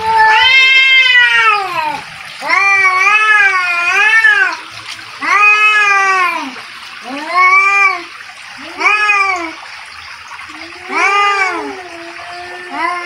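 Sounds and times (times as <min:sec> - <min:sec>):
cats yowling: 0:00.0 - 0:09.6, 0:10.4 - 0:13.0.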